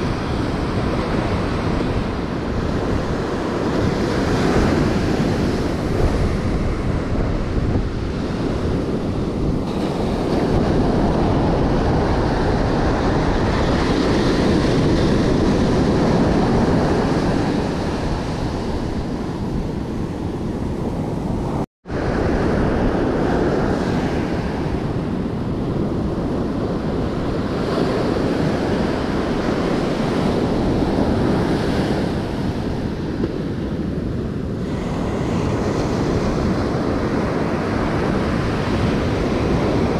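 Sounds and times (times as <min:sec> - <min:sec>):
ocean surf breaking on beach: 0:00.0 - 0:39.9
wind buffeting microphone: 0:00.0 - 0:39.9.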